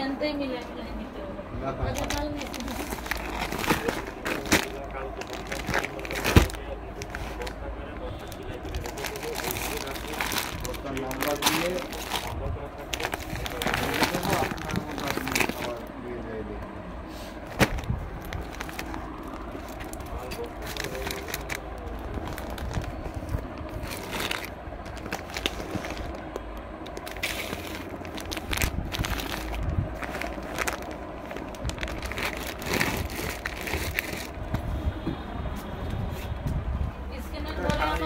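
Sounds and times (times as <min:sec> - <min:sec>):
low background rumble: 0:00.0 - 0:38.0
plastic wrapping crinkling: 0:01.8 - 0:16.0, 0:17.5 - 0:34.6.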